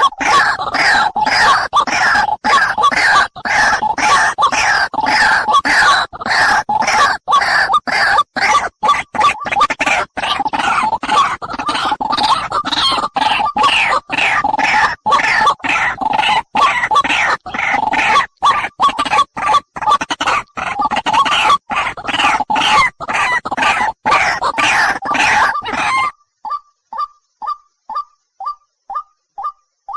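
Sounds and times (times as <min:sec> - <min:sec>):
loud animal calls: 0:00.0 - 0:26.2.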